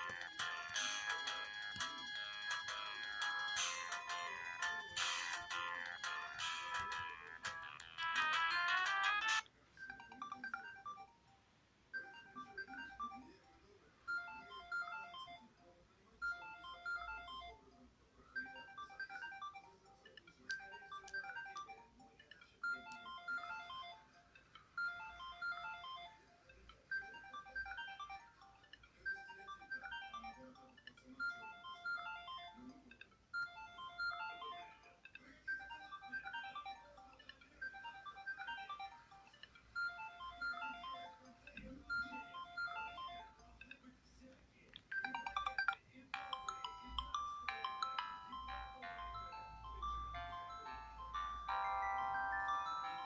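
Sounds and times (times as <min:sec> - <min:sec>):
mobile phone ringtone: 0:00.0 - 0:11.3, 0:11.9 - 0:15.5, 0:16.2 - 0:17.7, 0:18.3 - 0:32.7, 0:33.3 - 0:43.4, 0:45.0 - 0:53.0.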